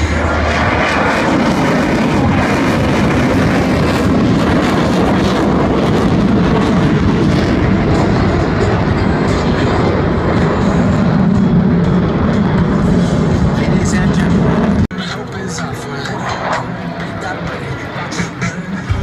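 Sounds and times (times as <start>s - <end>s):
fighter jet engines roaring: 0.0s - 19.0s.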